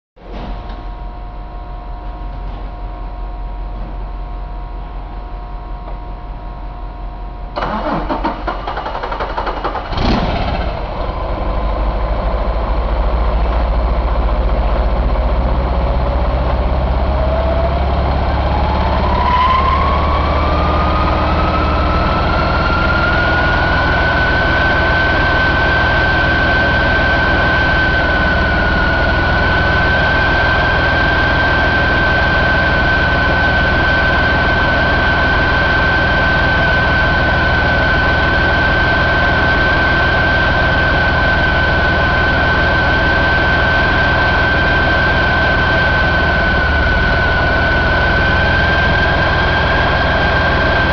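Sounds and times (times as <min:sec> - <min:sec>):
high whine: 0:00.3 - 0:50.9
diesel engine idling: 0:07.5 - 0:50.9.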